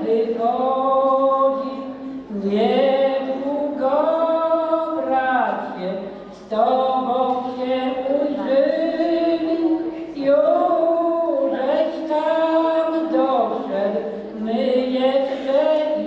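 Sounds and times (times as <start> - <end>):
man singing unaccompanied: 0.0 - 16.0.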